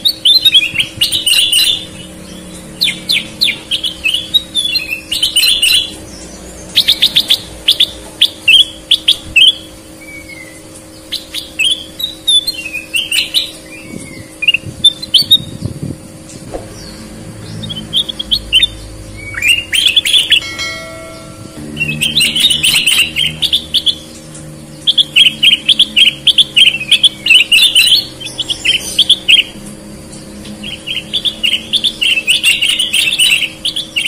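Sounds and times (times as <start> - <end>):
birds singing chirpy phrases: 0.0 - 34.0.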